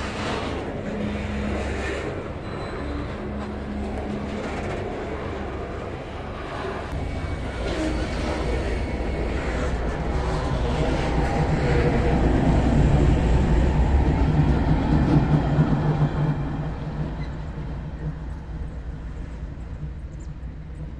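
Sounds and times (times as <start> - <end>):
locomotive engines droning: 0.0 - 20.9
train rumbling on rails: 0.0 - 20.9.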